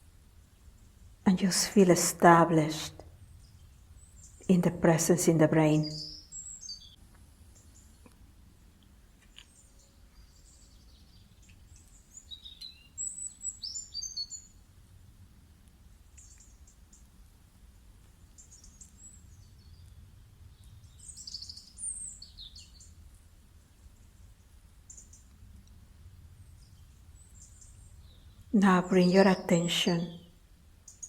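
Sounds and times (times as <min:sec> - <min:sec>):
faint low hum: 0:00.0 - 0:31.0
songbirds singing: 0:00.4 - 0:08.1, 0:09.2 - 0:14.7, 0:16.1 - 0:17.3, 0:18.2 - 0:25.7, 0:26.4 - 0:31.0.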